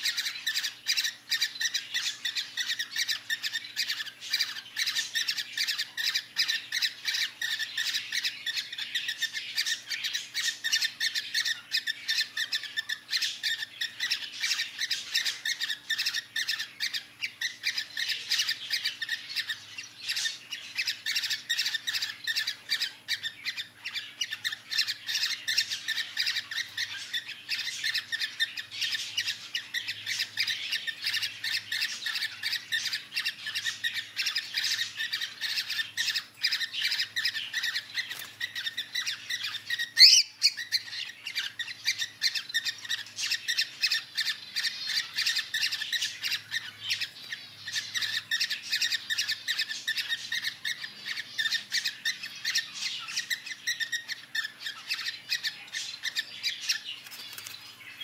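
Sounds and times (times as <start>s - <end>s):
cockatiels squawking and chirping: 0.0s - 58.0s.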